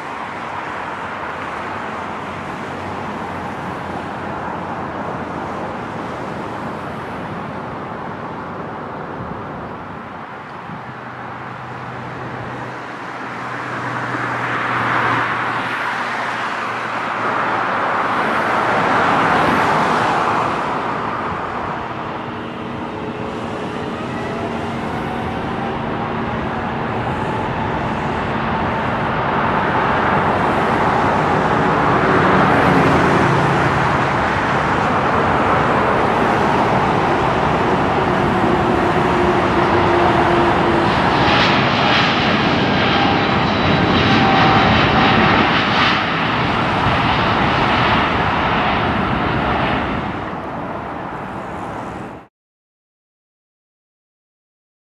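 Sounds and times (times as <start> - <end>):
jet engines at takeoff power: 0.0 - 52.3.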